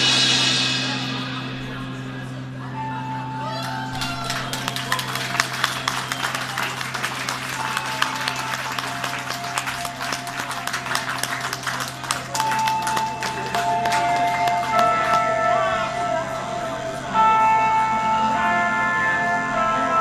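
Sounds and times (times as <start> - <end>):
electric guitars sustained notes: 0.0 - 20.0
low drone: 0.0 - 20.0.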